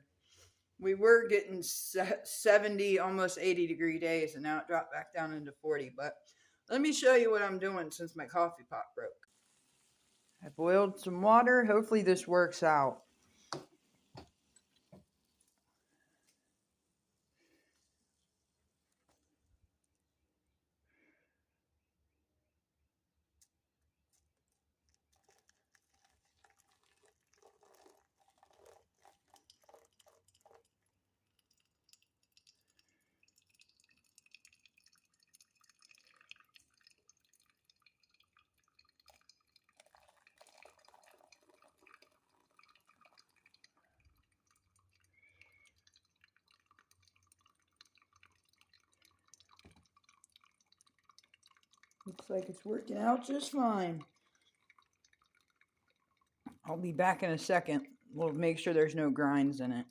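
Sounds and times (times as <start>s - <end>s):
water dripping through coffee: 0.6s - 16.5s, 23.4s - 59.9s.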